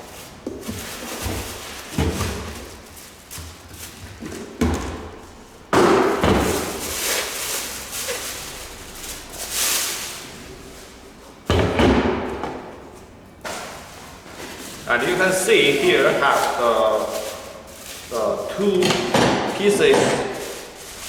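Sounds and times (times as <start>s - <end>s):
packaging rustling: 0.0s - 11.5s, 12.2s - 21.0s.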